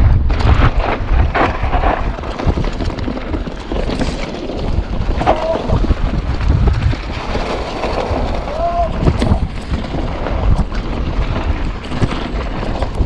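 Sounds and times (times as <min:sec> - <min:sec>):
bike knocks and rattles: 0:00.0 - 0:13.0
wind buffeting microphone: 0:00.0 - 0:13.0.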